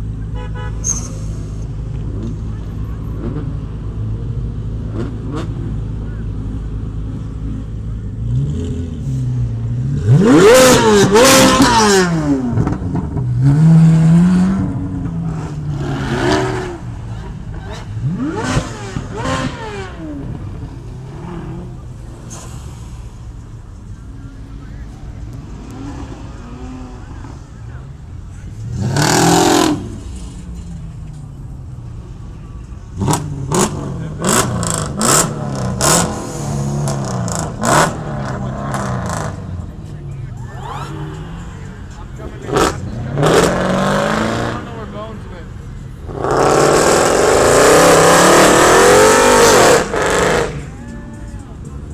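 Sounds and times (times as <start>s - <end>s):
truck engine revving: 4.7s - 51.9s.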